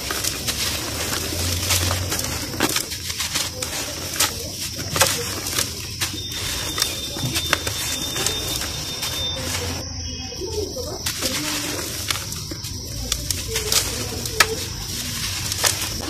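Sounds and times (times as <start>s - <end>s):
dirt clumps crumbling: 0.0s - 16.0s
dirt pattering onto a heap: 0.0s - 16.0s.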